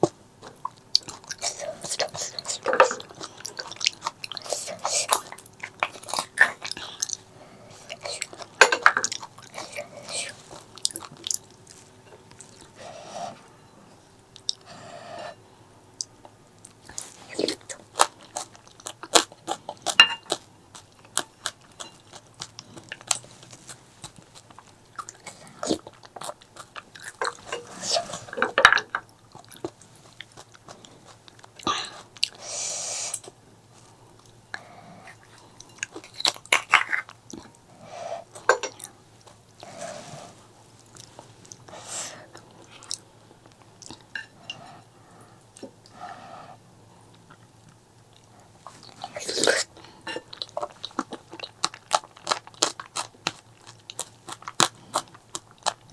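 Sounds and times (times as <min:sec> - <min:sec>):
chewing and biting: 0:00.0 - 0:12.8, 0:16.0 - 0:32.4, 0:33.2 - 0:44.9, 0:47.1 - 0:55.9.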